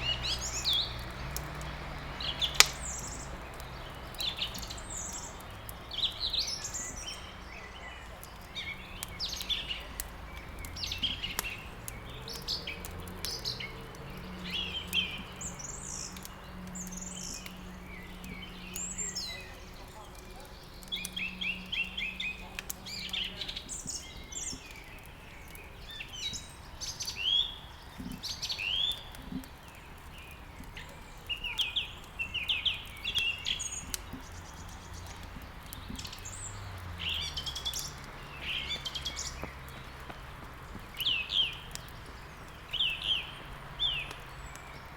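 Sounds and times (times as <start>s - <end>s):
songbirds chirping: 0.0s - 44.9s
wood fire crackling: 0.0s - 44.9s.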